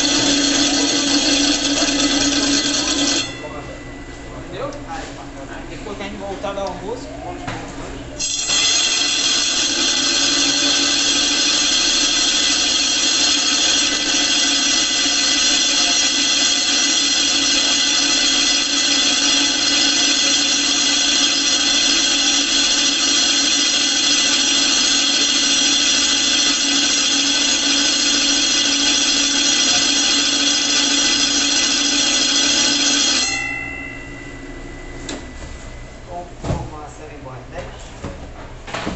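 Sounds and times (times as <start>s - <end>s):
blade grinding whine: 0.0s - 3.9s, 8.2s - 36.0s.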